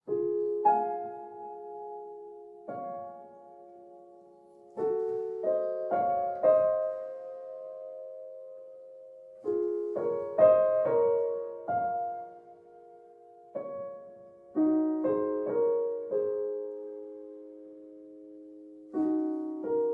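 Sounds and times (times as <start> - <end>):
slow piano music: 0.0 - 19.9.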